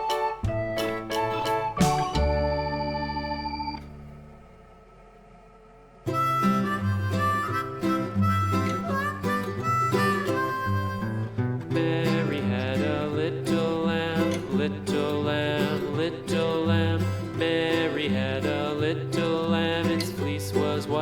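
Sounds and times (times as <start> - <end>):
country tune with acoustic guitar: 0.0 - 4.4, 6.0 - 21.0.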